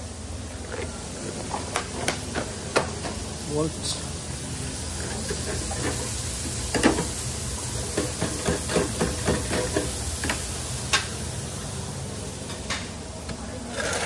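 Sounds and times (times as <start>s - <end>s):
oil bubbling in deep fryer: 0.0s - 14.0s.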